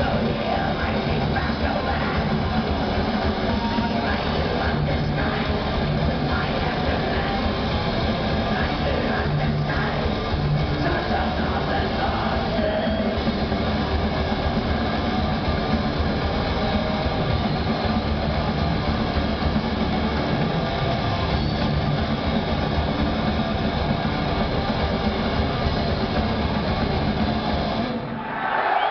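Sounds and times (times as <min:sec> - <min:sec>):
live black metal band: 0:00.0 - 0:28.2.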